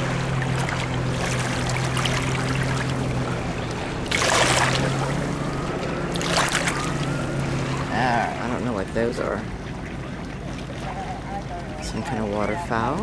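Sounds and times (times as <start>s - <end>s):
steady low hum: 0.0s - 13.0s
water lapping against rocks: 0.0s - 13.0s.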